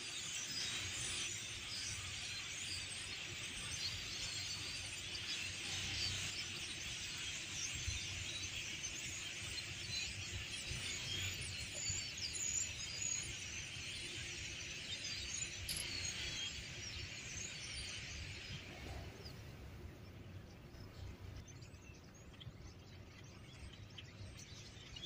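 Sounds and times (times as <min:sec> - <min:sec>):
flock of starlings chirping: 0:00.0 - 0:25.0.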